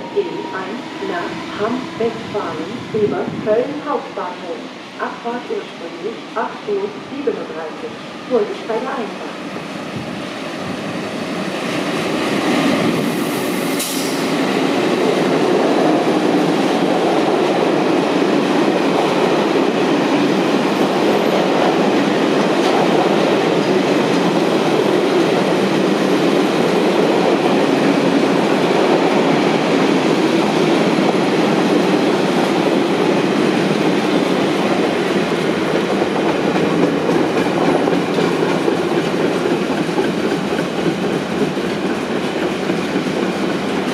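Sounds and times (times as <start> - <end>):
train wheels rumbling on rails: 0.0 - 6.1, 6.7 - 43.9.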